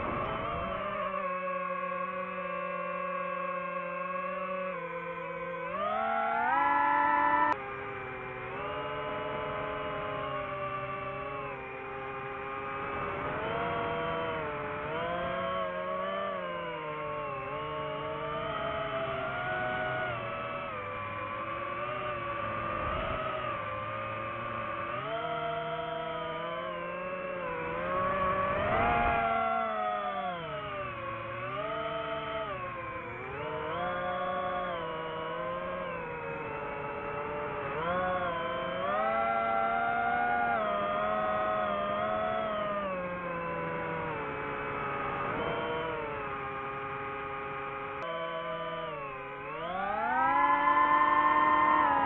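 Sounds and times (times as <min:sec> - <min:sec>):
drone propellers whining: 0:00.0 - 0:52.0.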